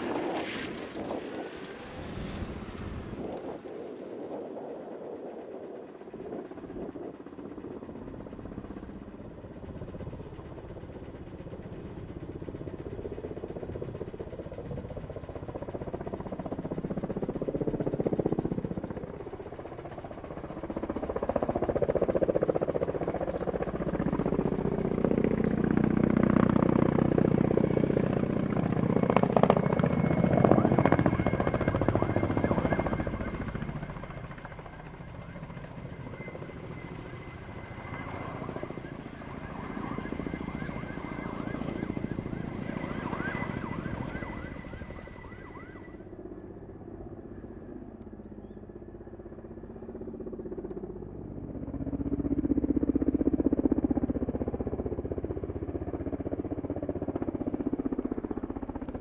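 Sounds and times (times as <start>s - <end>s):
helicopter flying past: 0.0s - 59.0s.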